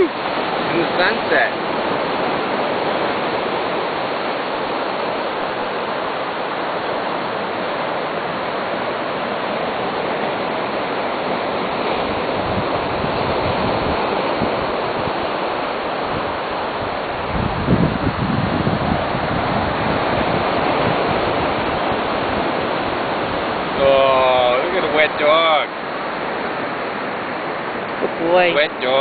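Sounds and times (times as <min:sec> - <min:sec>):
ocean surf on beach: 0:00.0 - 0:29.0
wind gusting on microphone: 0:00.0 - 0:29.0.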